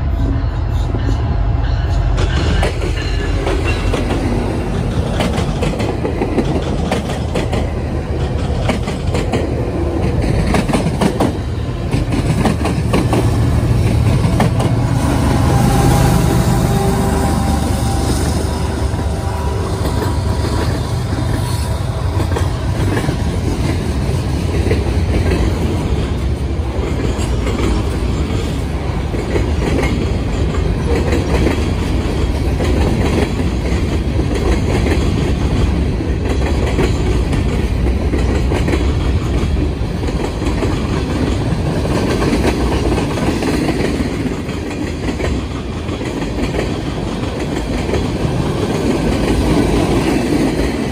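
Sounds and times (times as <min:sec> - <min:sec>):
diesel locomotive engine: 0:00.0 - 0:50.9.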